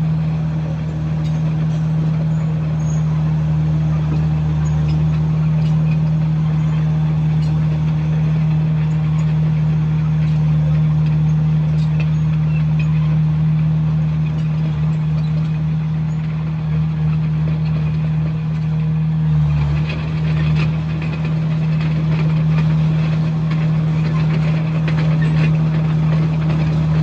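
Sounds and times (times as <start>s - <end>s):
diesel engine running steadily: 0.0s - 27.0s.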